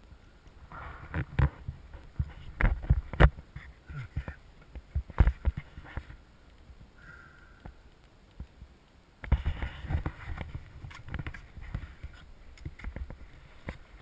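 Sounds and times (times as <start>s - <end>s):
wind rumbling on microphone: 0.0s - 14.0s
knocks and rattles of glider frame: 1.1s - 6.9s, 8.4s - 14.0s.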